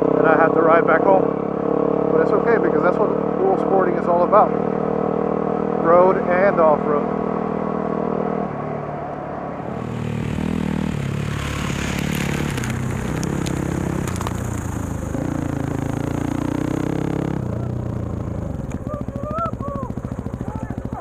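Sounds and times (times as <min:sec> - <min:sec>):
motorcycle engine running: 0:00.0 - 0:08.3, 0:09.4 - 0:21.0.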